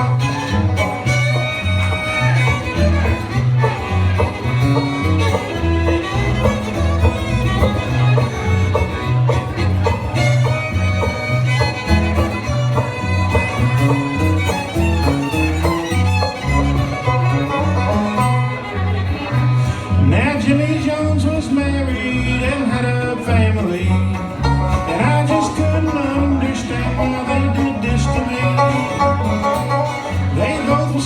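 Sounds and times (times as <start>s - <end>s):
banjo: 0.0s - 31.0s
bass line: 0.0s - 31.0s
fiddle melody: 0.0s - 31.0s
guitar: 0.0s - 31.0s.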